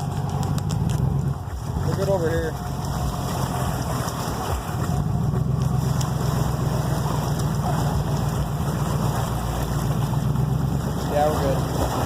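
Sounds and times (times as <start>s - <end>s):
pickup engine running: 0.0s - 12.0s.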